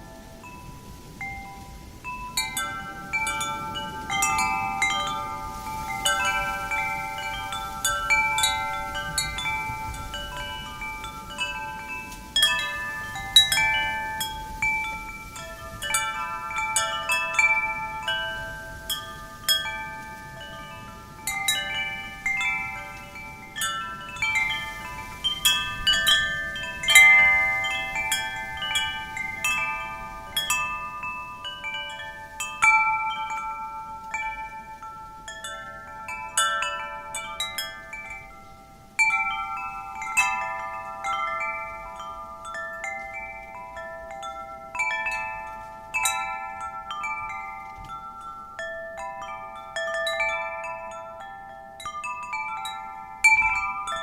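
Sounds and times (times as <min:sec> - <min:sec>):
metal wind chimes ringing: 0:00.0 - 0:54.0.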